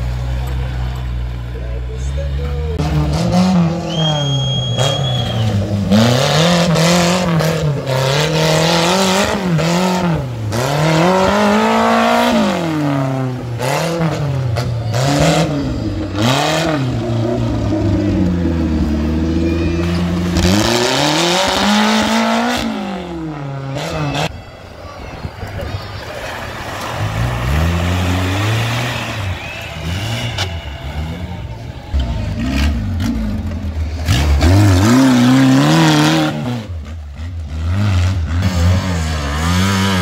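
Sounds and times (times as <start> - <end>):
tractor engine revving: 0.0 - 40.0.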